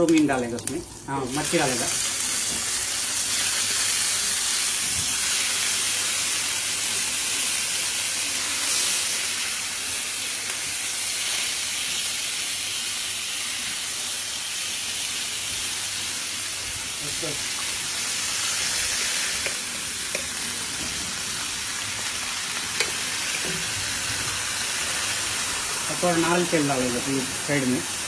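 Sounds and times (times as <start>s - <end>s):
fish frying in oil: 0.0s - 28.0s.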